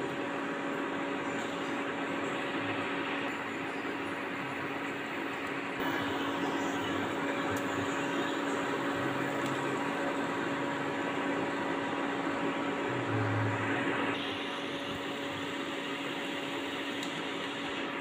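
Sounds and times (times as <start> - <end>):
fan whirring hiss: 0.0 - 18.0.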